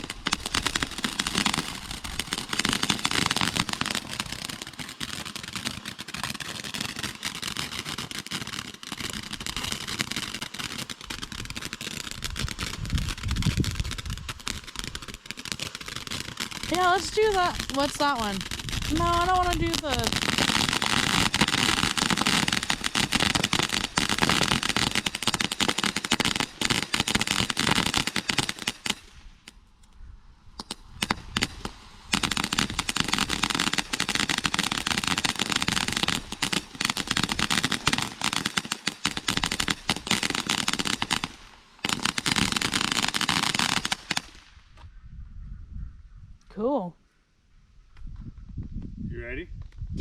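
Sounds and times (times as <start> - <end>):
fireworks crackling: 0.0 - 29.6, 30.5 - 44.8.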